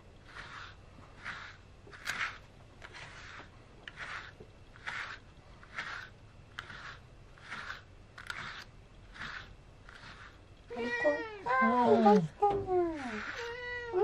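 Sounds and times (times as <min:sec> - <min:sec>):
brush strokes through fur: 0:00.0 - 0:14.0.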